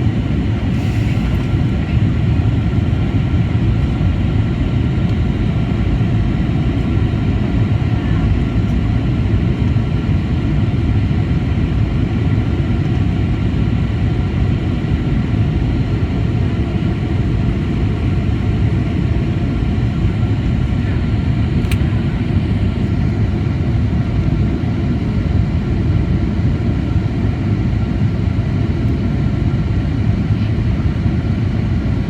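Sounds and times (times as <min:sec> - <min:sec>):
jet engine rumble: 0:00.0 - 0:32.0.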